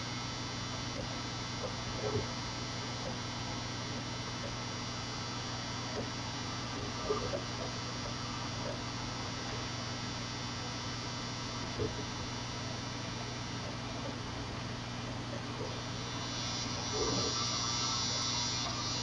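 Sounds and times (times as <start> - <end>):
electrical hum: 0.0 - 19.0
faint whine: 0.0 - 19.0.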